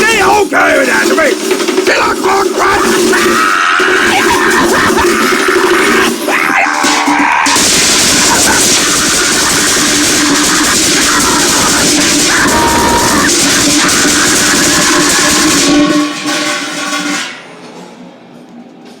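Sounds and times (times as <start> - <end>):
loud distorted music: 0.0 - 18.0.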